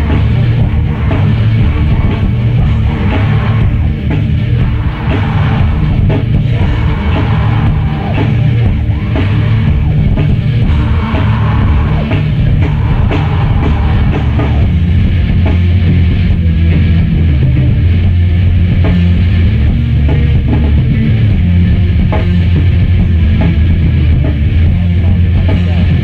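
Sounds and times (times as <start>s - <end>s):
heavy metal band playing: 0.0s - 26.0s.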